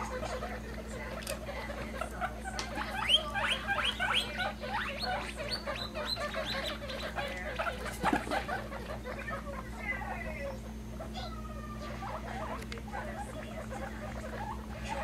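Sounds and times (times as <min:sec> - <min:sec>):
guinea pigs squeaking: 0:00.0 - 0:15.0.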